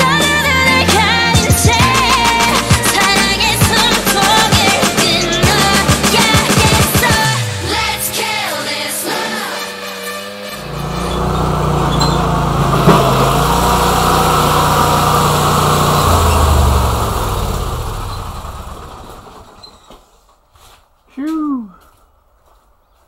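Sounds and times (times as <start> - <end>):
riding lawn mower engine: 0.0 - 9.0, 9.6 - 19.9.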